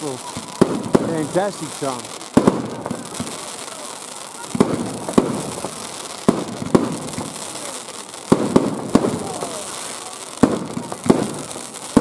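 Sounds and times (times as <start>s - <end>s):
fireworks bangs: 0.0s - 12.0s
steady hiss: 0.0s - 12.0s.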